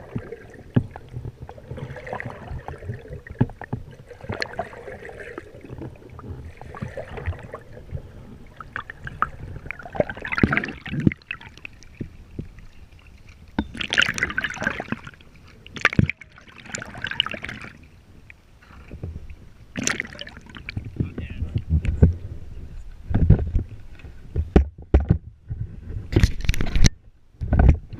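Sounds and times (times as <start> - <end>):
paddle strokes splashing water: 0.0 - 24.4
water sloshing at hull: 0.0 - 27.9.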